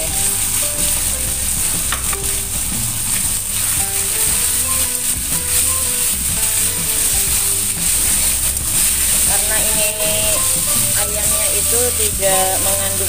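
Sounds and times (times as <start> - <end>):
background music: 0.0 - 13.0
chicken sizzling in oil: 0.0 - 13.0
spatula stirring in wok: 0.0 - 13.0.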